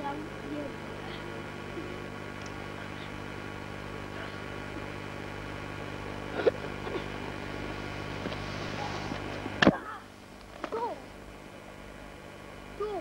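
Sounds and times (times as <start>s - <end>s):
electrical hum: 0.0s - 13.0s
tape hiss: 0.0s - 13.0s.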